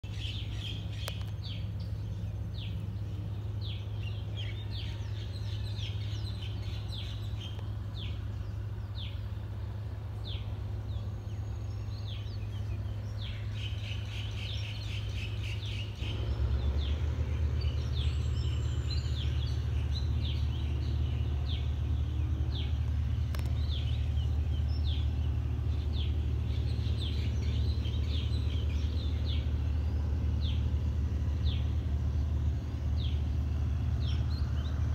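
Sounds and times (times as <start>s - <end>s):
low rumble: 0.0s - 34.9s
small birds chirping: 0.0s - 34.9s.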